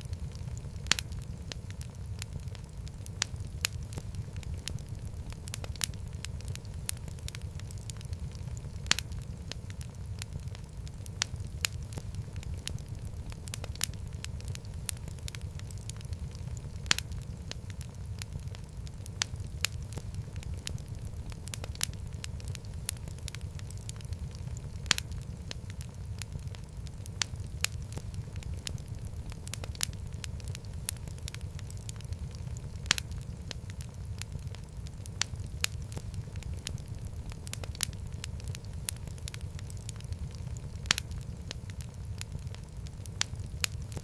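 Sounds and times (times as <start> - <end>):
fire crackling and popping: 0.0 - 44.0
fire flames rumbling: 0.0 - 44.0.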